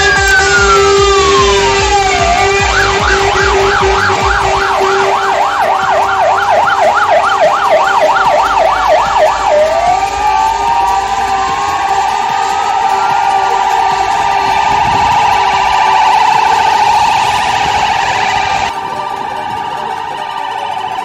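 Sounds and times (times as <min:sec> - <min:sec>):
fire engine sirens: 0:00.0 - 0:21.0.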